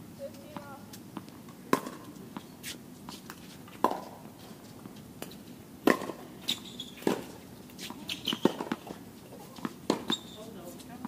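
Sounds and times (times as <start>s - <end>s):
tennis balls bouncing on court: 0.3s - 2.4s, 3.1s - 11.0s
tennis balls struck by rackets: 0.4s - 2.2s, 3.1s - 10.2s.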